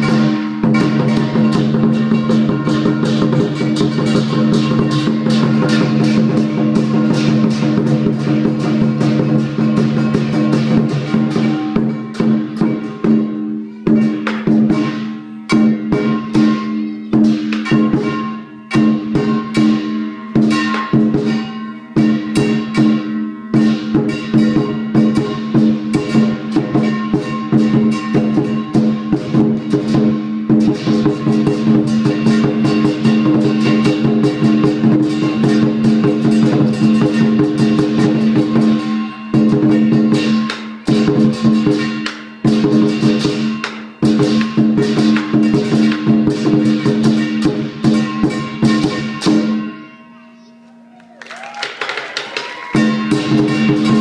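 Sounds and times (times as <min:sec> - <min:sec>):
large drum beaten fast: 0:00.0 - 0:49.8, 0:52.6 - 0:54.0
crashing cymbals: 0:00.0 - 0:50.7, 0:52.4 - 0:54.0
ringing gong: 0:00.0 - 0:50.9.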